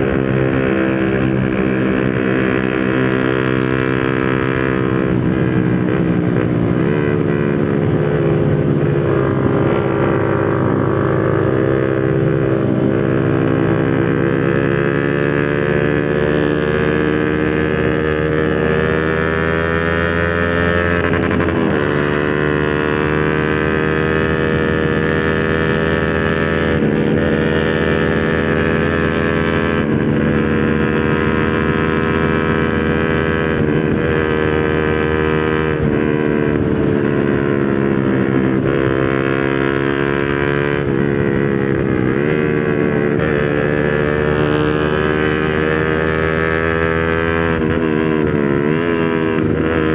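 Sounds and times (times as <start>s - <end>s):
loud motorcycle engine running: 0.0s - 49.9s.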